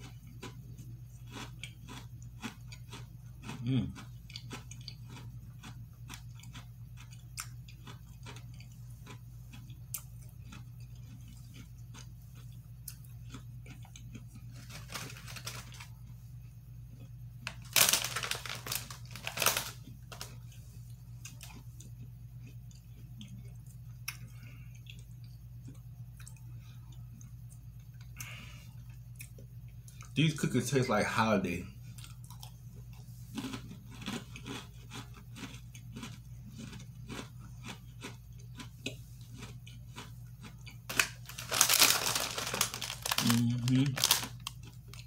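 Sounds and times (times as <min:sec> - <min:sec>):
chewing cookies: 0:00.0 - 0:30.8, 0:31.4 - 0:45.0
steady low hum: 0:00.0 - 0:45.0.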